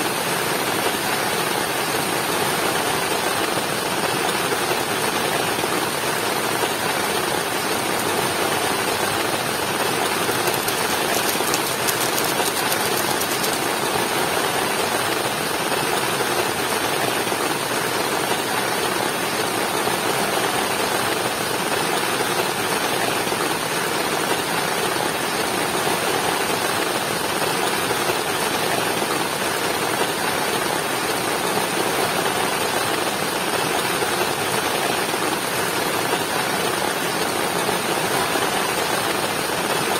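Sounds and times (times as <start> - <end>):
heavy rain falling: 0.0 - 39.9
waterfall rushing: 0.0 - 39.9.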